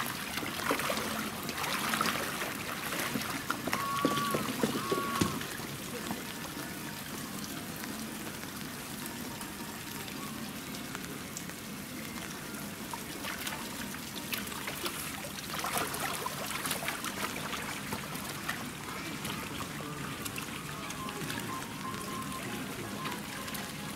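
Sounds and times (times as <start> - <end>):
small water splashes and drips: 0.0 - 23.9
water trickling and pouring: 0.0 - 23.9.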